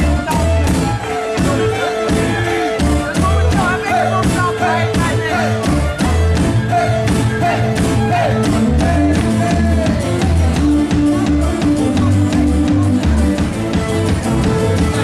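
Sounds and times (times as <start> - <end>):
person singing: 0.0 - 13.2
live band playing dance song: 0.0 - 15.0.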